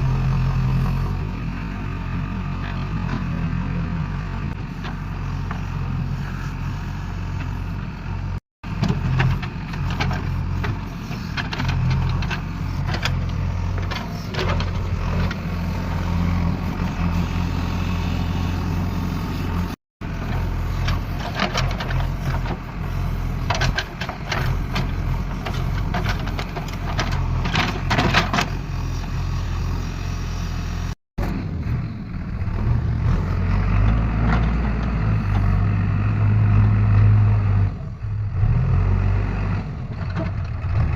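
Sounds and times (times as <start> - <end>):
vehicle engine humming: 0.0 - 40.9.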